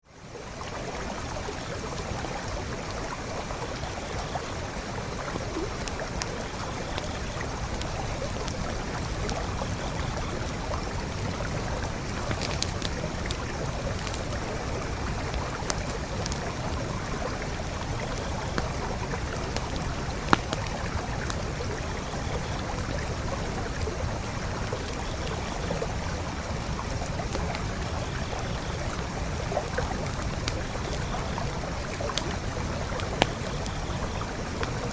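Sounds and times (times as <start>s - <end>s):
creek water flowing: 0.0s - 34.9s
campfire crackling and popping: 0.4s - 34.9s.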